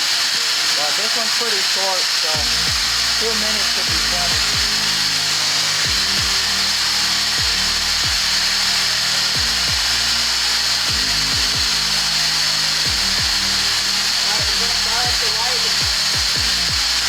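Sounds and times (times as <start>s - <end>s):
loud rushing hiss of pressurised air: 0.0s - 17.0s.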